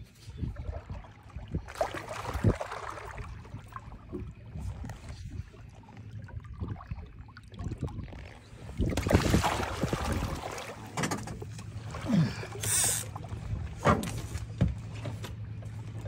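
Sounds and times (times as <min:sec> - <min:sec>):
water splashing against boat: 0:00.0 - 0:16.0.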